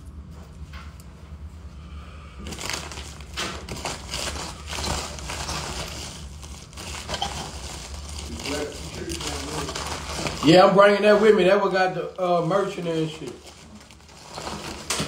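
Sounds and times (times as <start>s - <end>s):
steady low hum: 0.0s - 15.0s
plastic bag crinkling: 2.4s - 15.0s.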